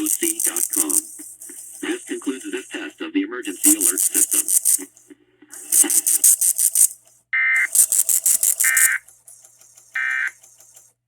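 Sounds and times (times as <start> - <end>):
music with fast ticking beat: 0.0 - 2.9, 3.5 - 4.9, 5.6 - 7.0, 7.6 - 10.9
buzzy digital tone bursts: 0.0 - 7.0, 7.6 - 10.6.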